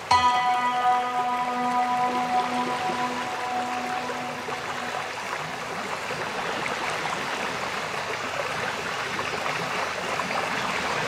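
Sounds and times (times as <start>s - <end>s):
trickling water: 0.0s - 11.0s.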